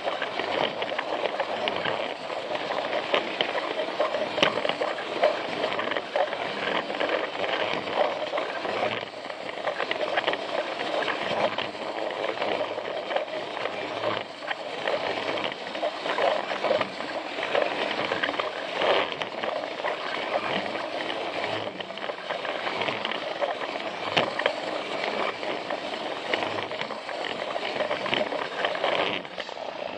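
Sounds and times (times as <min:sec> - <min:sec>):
toy train motor whirring: 0:00.0 - 0:29.9
wheels clicking over track joints: 0:00.0 - 0:29.9.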